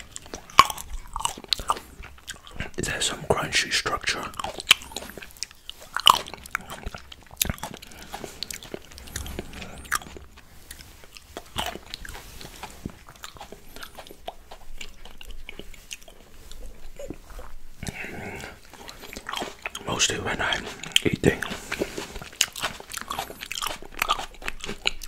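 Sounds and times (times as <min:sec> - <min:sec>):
chewing berries and grapes: 0:00.0 - 0:25.0.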